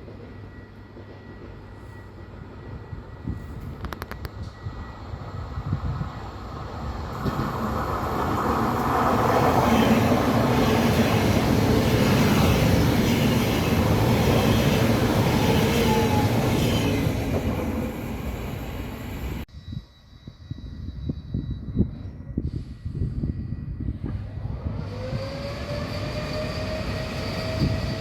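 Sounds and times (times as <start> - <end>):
train wheels rumbling on rails: 0.0 - 19.5, 20.6 - 28.0.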